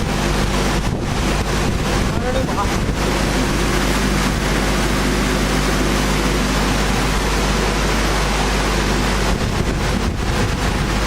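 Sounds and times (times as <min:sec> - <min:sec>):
sanding machine running: 0:00.0 - 0:11.0.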